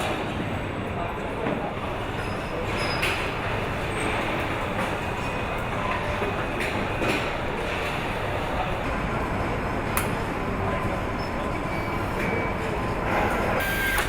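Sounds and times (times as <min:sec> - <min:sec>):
assembly line machinery noise: 0:01.8 - 0:14.0.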